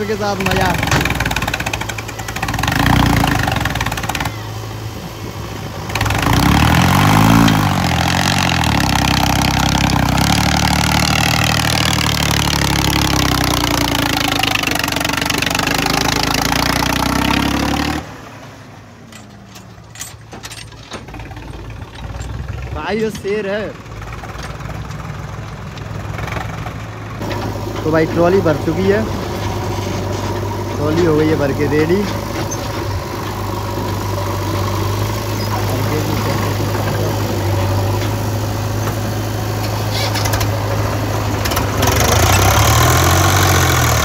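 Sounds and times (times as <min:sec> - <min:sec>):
tractor diesel engine labouring: 0:00.0 - 0:44.0.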